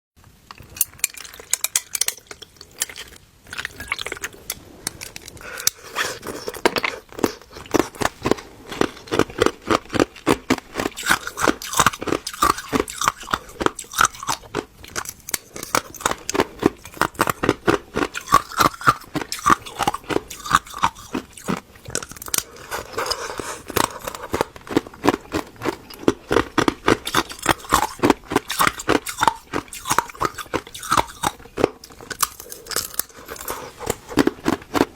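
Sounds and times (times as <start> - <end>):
ice being chewed: 0.5 - 34.9.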